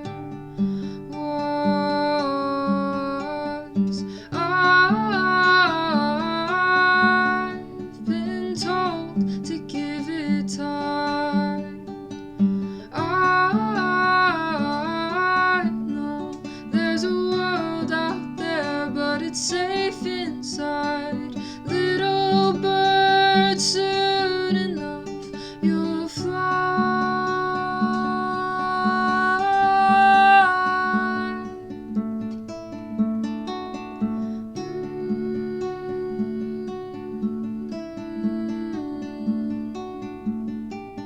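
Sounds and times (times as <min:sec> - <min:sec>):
person singing slow song: 0:00.0 - 0:32.0, 0:33.8 - 0:40.5.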